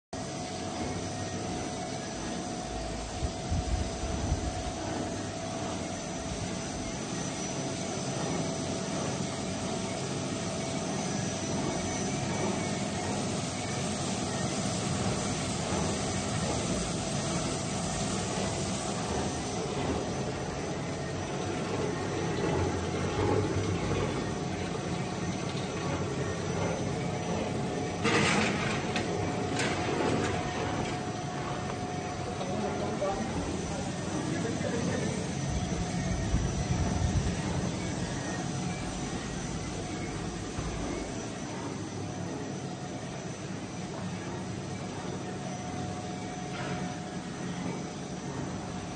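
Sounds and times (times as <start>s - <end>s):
machine humming and whining: 0.2s - 48.9s.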